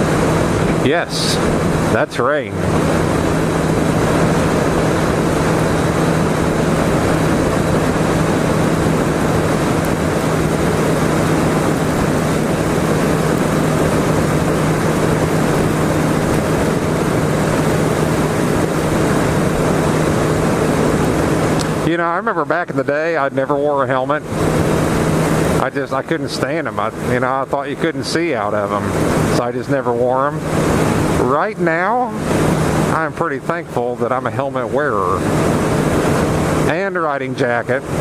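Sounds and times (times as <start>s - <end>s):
motorcycle engine cruising: 0.0s - 38.0s
wind rush over microphone: 0.0s - 38.0s.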